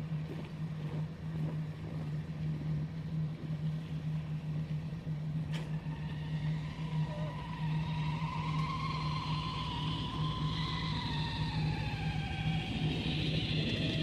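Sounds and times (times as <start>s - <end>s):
low drone from sky: 0.0s - 14.0s.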